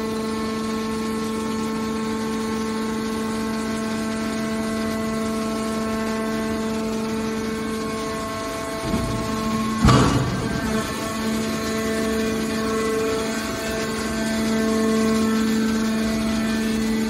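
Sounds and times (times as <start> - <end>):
hydraulic motor whine: 0.0 - 17.0.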